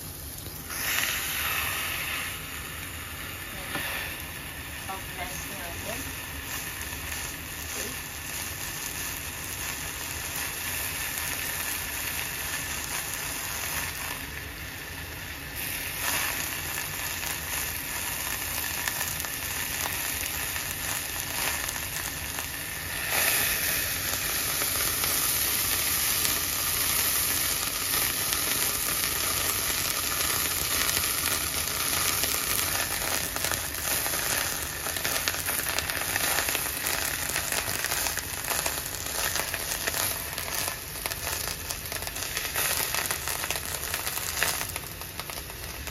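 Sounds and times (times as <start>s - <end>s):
burger patty sizzling in skillet: 0.0s - 45.9s.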